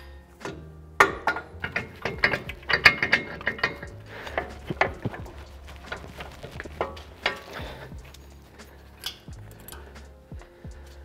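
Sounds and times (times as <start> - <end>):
metal suspension parts clanking: 0.0 - 11.0.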